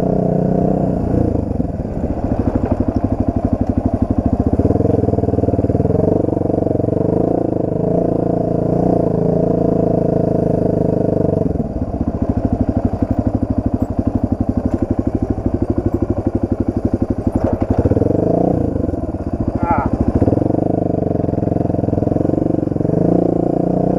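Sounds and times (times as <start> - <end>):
dirt bike engine: 0.0 - 23.9.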